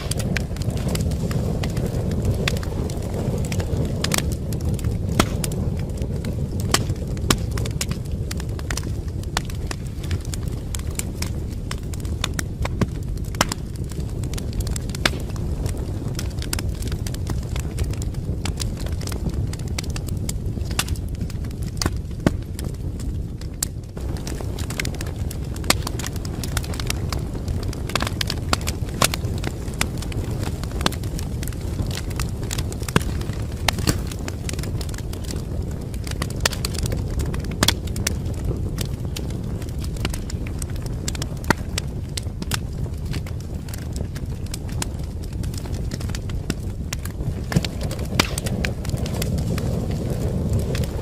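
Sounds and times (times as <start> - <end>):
fireplace fire crackling: 0.0 - 51.0.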